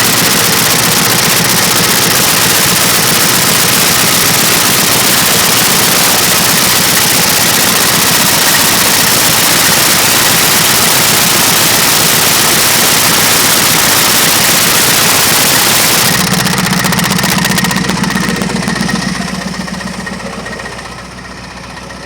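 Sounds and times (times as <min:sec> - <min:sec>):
truck engine knocking: 0:00.0 - 0:22.0.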